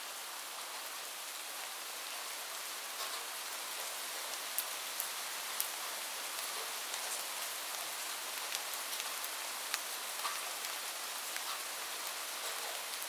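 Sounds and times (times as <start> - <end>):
light rain hiss: 0.0 - 13.0
raindrops ticking on a surface: 0.4 - 13.0.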